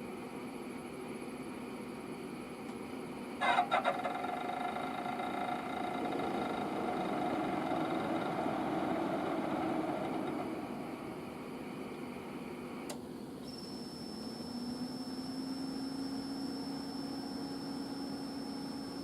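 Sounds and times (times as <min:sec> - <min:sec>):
fan whirring hum: 0:00.0 - 0:19.0.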